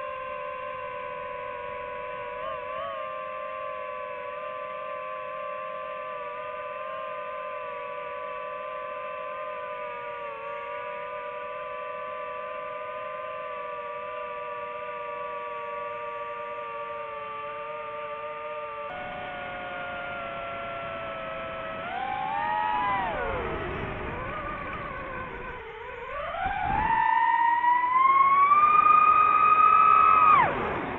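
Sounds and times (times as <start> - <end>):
drone propellers whining: 0.0 - 30.9.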